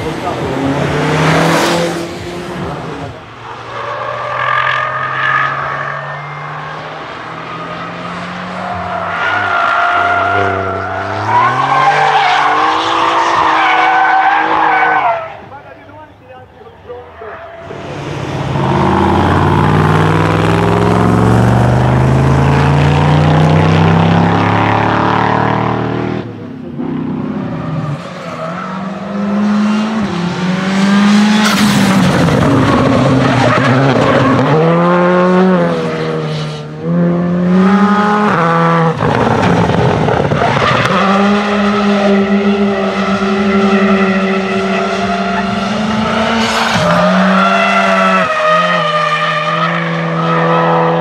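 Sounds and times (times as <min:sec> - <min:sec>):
car engine revving through gears: 0:00.0 - 0:15.1, 0:17.6 - 0:51.0
rally car engine at high revs: 0:00.0 - 0:15.3, 0:17.6 - 0:51.0.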